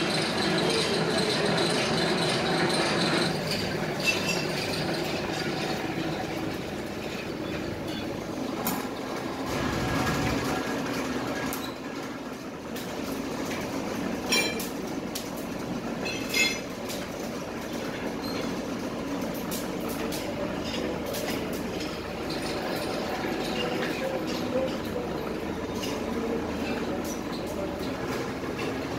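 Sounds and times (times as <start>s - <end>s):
gear drive running: 0.0s - 28.9s.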